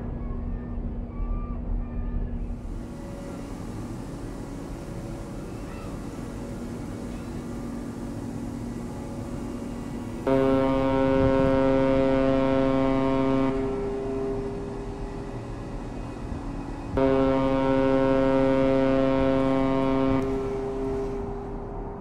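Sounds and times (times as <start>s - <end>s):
steady low hum: 0.0s - 22.0s
ship's horn blast: 2.6s - 21.9s.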